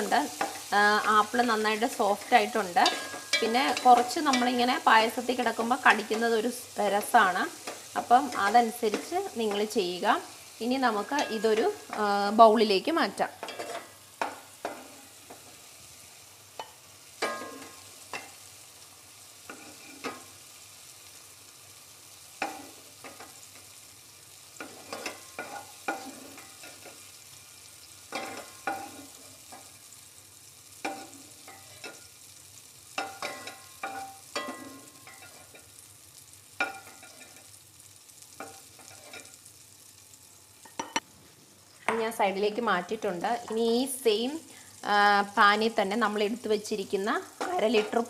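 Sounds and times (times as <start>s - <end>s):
faint sizzling: 0.0s - 48.0s.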